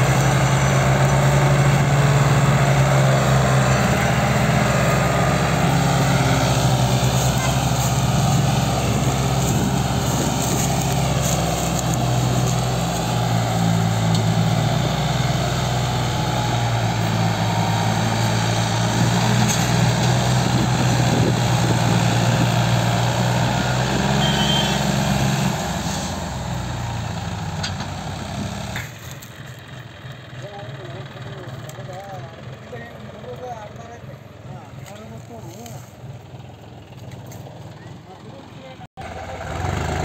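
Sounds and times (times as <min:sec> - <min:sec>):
tractor diesel engines under load: 0:00.0 - 0:40.0.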